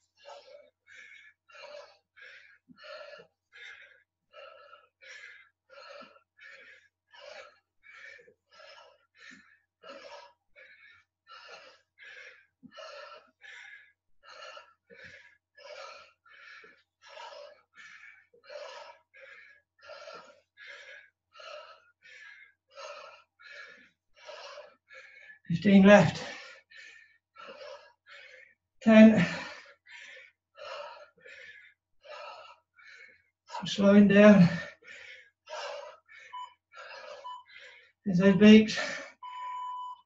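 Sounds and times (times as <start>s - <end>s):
man panting heavily: 0.0s - 38.1s, 38.7s - 39.2s.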